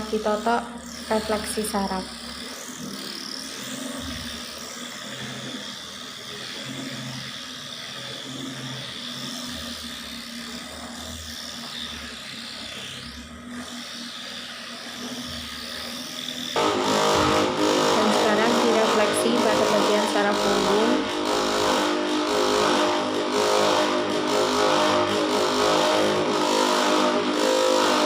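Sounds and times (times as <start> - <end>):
handheld massager buzzing: 0.0 - 28.0.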